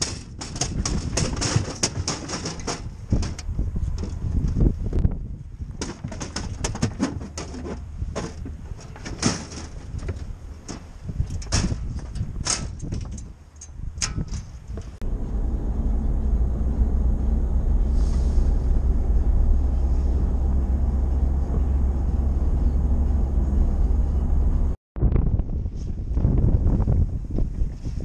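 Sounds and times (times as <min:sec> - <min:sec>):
wind buffeting microphone: 0:00.0 - 0:09.0, 0:09.7 - 0:28.0
road noise: 0:00.7 - 0:24.8.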